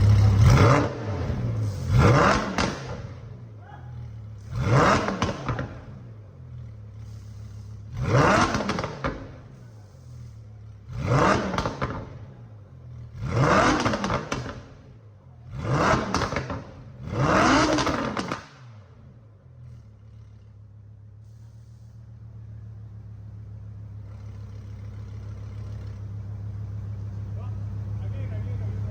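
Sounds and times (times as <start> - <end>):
car engine idling and revving: 0.0 - 28.9.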